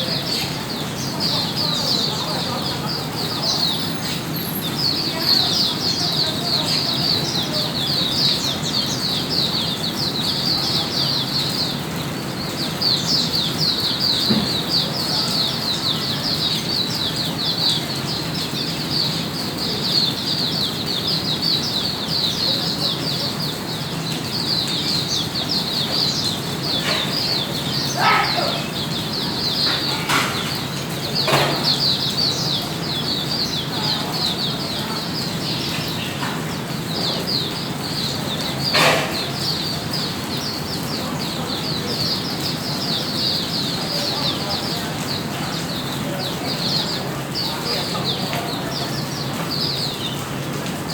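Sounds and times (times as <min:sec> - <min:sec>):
bird twittering song: 0:00.0 - 0:50.9.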